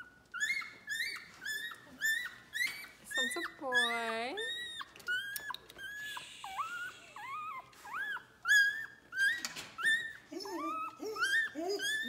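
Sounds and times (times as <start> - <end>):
puppy crying and whining: 0.0 - 12.0.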